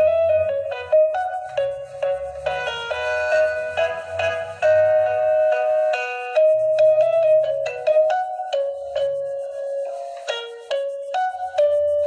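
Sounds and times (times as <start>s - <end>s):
soft bass line: 0.0s - 10.0s
bell-like keyboard tune: 0.0s - 12.0s.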